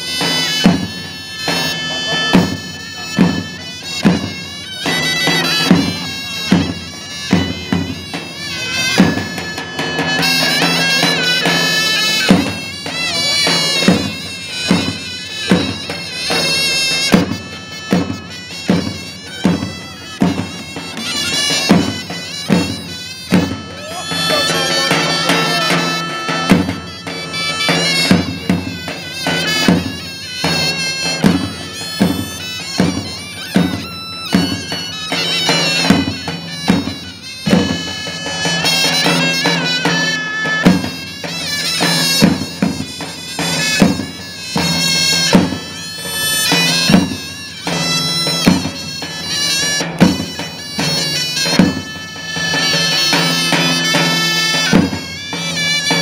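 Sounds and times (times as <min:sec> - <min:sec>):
shawms playing a folk melody: 0:00.0 - 0:56.0.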